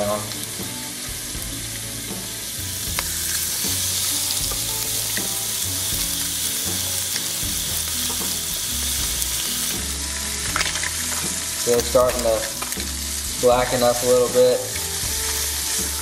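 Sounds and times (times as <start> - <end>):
fish fillets sizzling in pan: 0.0 - 16.0.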